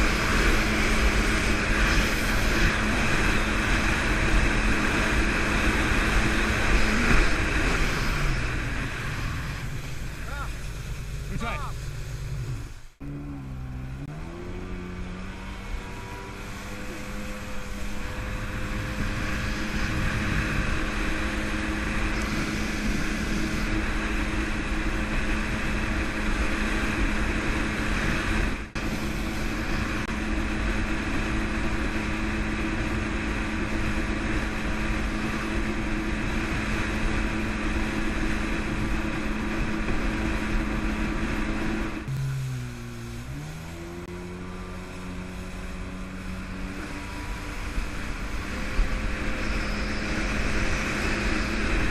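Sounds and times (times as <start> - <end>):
rush of wind and water: 0.0 - 11.0, 15.1 - 51.9
jet ski engine running: 0.0 - 51.9.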